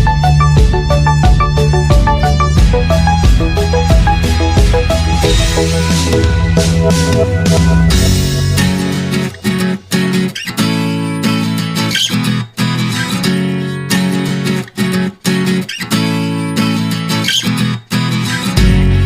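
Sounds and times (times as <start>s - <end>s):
strummed guitar chords: 0.0s - 17.2s, 18.0s - 19.0s.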